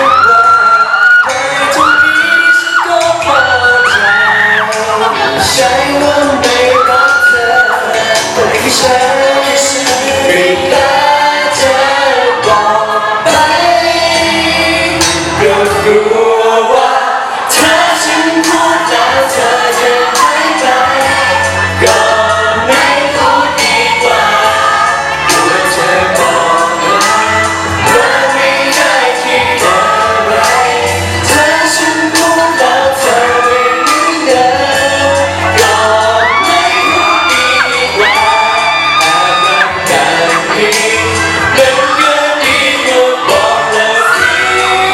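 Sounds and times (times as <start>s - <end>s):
loud pop song with vocals: 0.0s - 44.9s.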